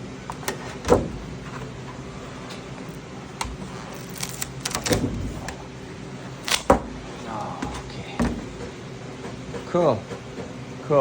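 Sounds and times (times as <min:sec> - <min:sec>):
printer fan hum: 0:00.0 - 0:11.0.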